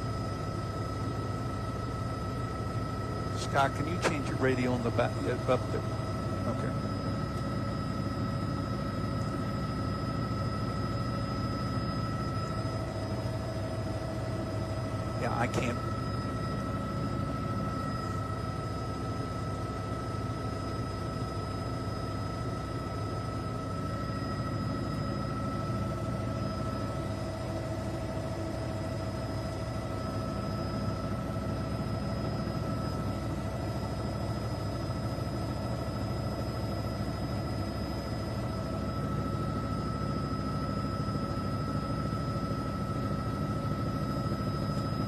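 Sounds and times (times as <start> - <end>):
helicopter engine and rotor: 0.0 - 45.0.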